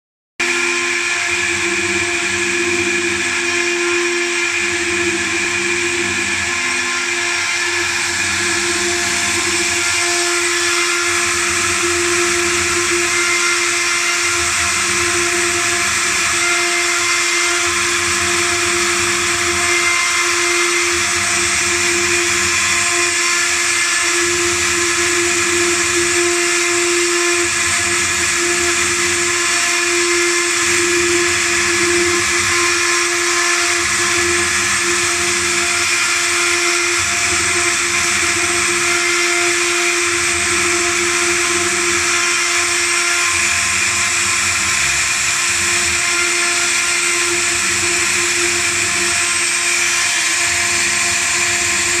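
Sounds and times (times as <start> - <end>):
router spindle whine: 0.4 - 52.0.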